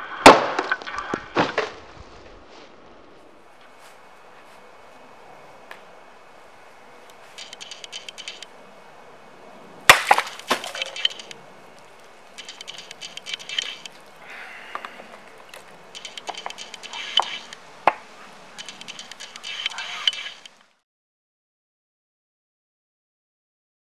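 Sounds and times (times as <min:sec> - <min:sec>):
rustling: 0:00.0 - 0:08.6, 0:09.6 - 0:20.7.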